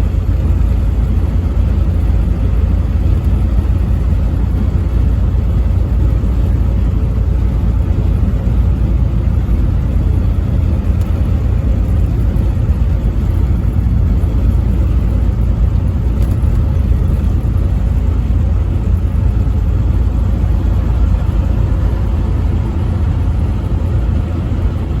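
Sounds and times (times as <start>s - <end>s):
truck engine and road noise: 0.0s - 25.0s.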